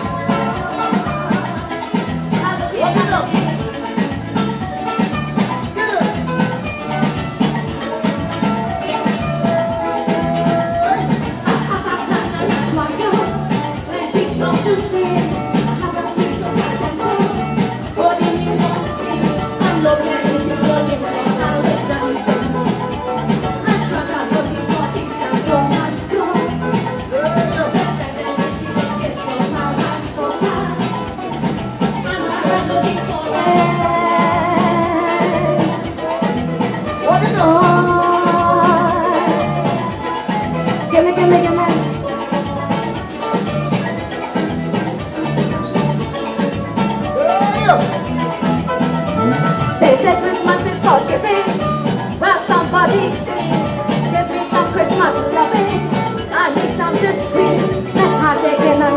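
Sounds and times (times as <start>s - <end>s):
band playing: 0.0s - 58.9s
maracas shaking: 0.0s - 58.9s.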